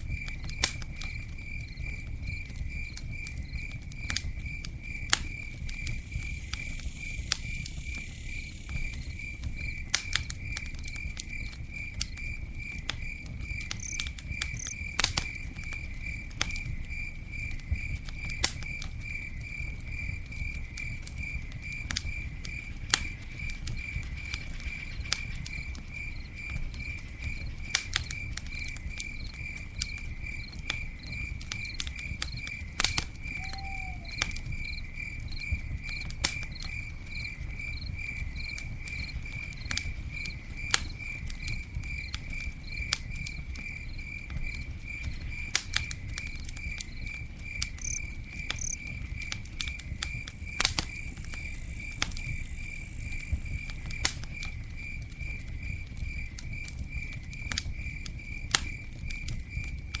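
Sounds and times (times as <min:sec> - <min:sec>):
campfire crackling and popping: 0:00.0 - 1:00.0
cricket chirping: 0:00.0 - 1:00.0.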